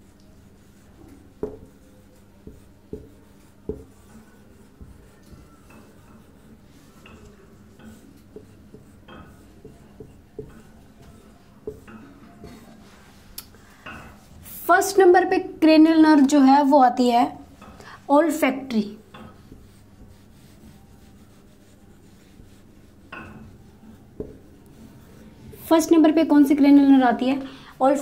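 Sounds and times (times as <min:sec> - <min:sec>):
marker pen writing on whiteboard: 0:00.0 - 0:15.2, 0:17.4 - 0:27.4.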